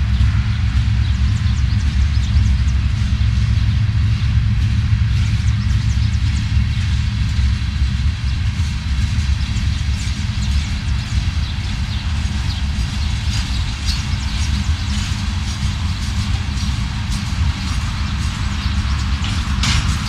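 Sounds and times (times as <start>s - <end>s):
freight train rumbling: 0.0s - 20.0s
wheels squeaking on rails: 0.0s - 20.0s.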